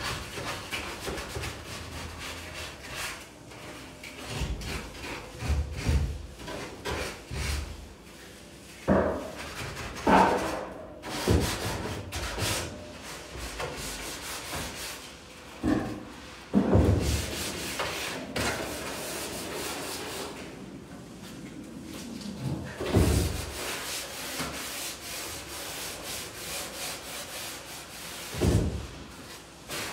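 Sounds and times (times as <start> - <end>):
hand sanding strokes: 0.0 - 10.3, 11.0 - 15.3, 16.1 - 20.5, 22.8 - 29.9.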